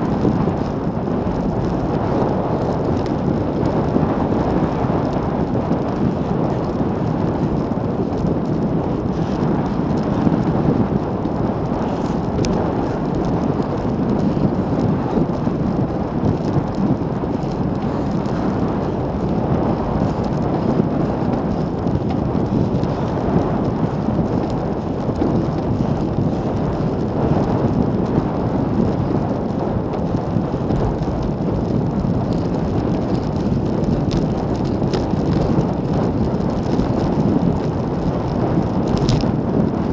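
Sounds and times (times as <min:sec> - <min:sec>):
bicycle tyre road noise: 0:00.0 - 0:39.9
wind buffeting microphone: 0:00.0 - 0:39.9.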